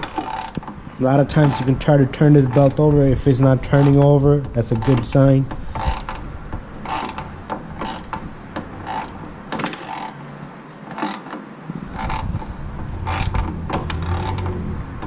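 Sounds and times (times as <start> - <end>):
ratchet wrench clicking: 0.0 - 0.8, 1.4 - 10.2, 10.9 - 14.6
belt squealing: 0.0 - 10.2, 11.9 - 14.8.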